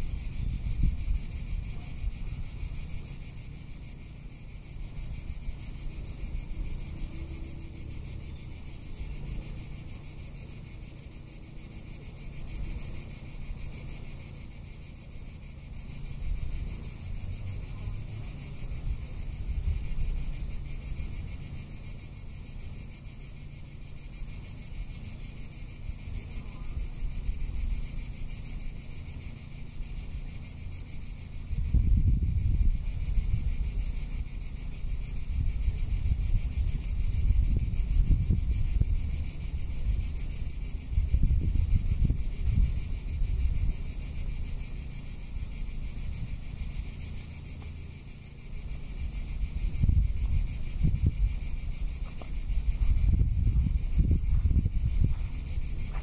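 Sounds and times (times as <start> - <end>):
wind rumbling on microphone: 0.0 - 10.8, 14.9 - 23.6, 29.8 - 56.0
cicadas buzzing: 0.0 - 56.0.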